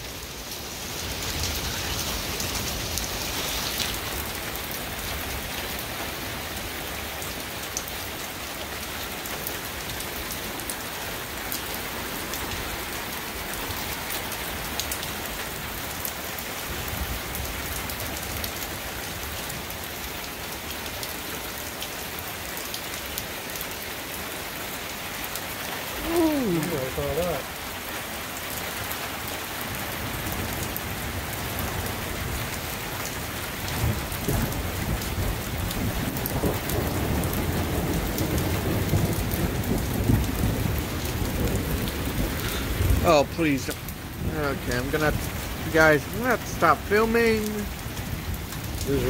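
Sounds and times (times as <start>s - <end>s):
heavy rain falling: 0.0s - 49.0s
raindrops ticking on surfaces: 0.0s - 49.0s.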